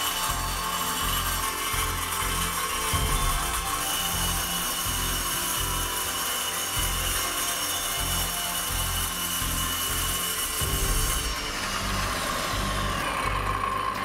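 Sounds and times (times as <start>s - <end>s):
circular saw cutting plastic panel: 0.0s - 14.0s.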